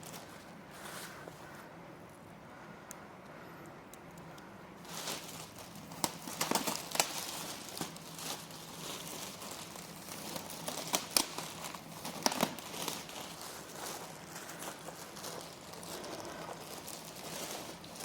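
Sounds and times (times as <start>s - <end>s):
plastic packaging crinkling: 0.0s - 1.5s, 4.8s - 18.0s
bubble wrap crackling and snapping: 0.0s - 1.6s, 4.2s - 18.0s.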